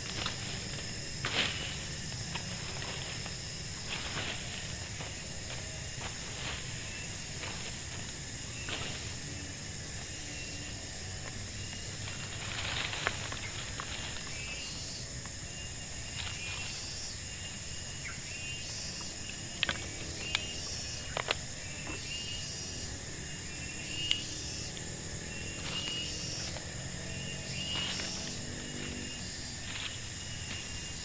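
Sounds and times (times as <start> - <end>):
insect drone: 0.0 - 31.0.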